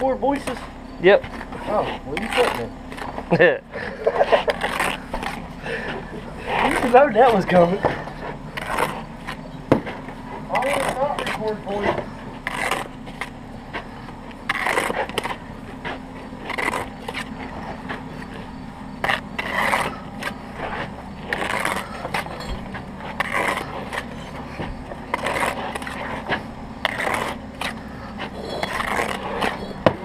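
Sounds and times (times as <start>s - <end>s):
low hum: 0.0s - 30.0s
trowel scraping mortar on brick: 1.3s - 3.1s, 3.8s - 30.0s.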